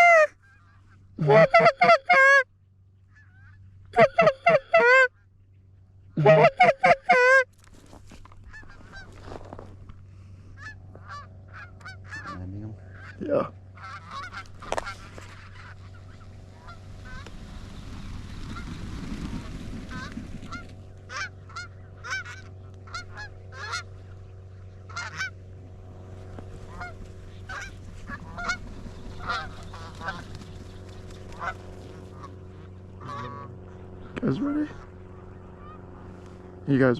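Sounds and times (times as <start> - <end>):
geese honking: 0.0 - 5.3, 6.1 - 7.5, 8.4 - 9.7, 10.4 - 36.9
steady low hum: 0.0 - 36.9.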